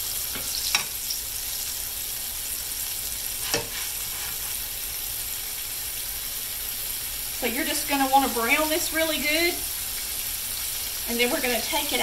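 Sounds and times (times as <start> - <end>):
steaks sizzling in hot oil: 0.0 - 12.0.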